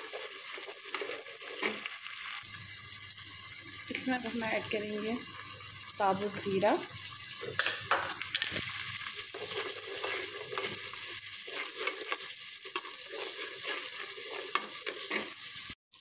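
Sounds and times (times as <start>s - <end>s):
metal spatula scraping: 0.0s - 2.5s, 3.6s - 15.8s
onions sizzling in oil: 0.0s - 16.0s.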